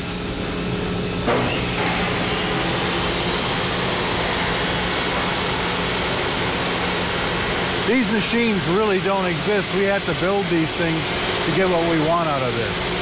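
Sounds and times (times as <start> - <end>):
cutting machine hissing: 1.1 - 13.0.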